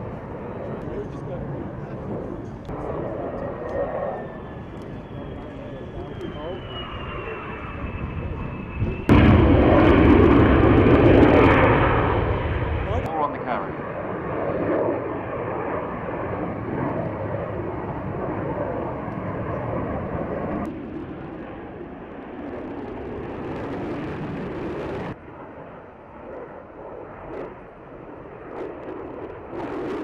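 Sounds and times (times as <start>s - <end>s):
fighter jet flying overhead: 0.0s - 30.0s.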